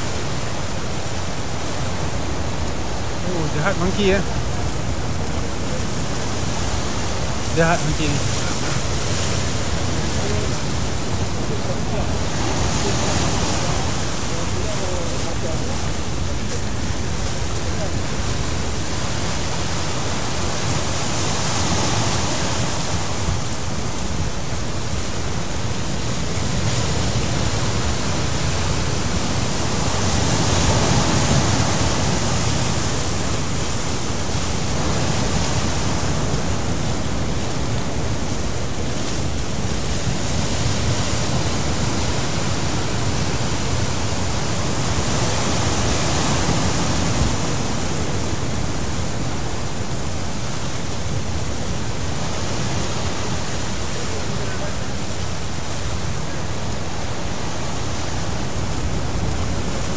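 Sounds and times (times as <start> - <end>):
ocean surf breaking: 0.0 - 59.9
wind: 0.0 - 59.9.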